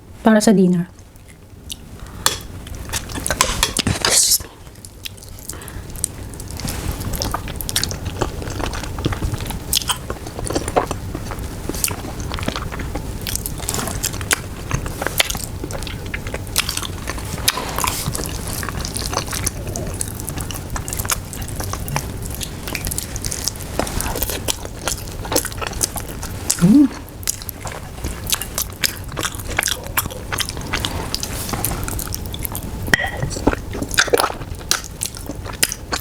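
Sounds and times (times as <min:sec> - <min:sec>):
person chewing food: 0:01.0 - 0:36.0.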